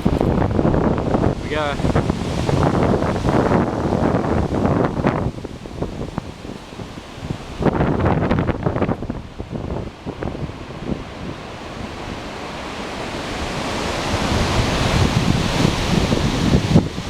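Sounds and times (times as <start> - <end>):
wind buffeting microphone: 0.0 - 17.0
wind rushing through trees: 0.0 - 17.0.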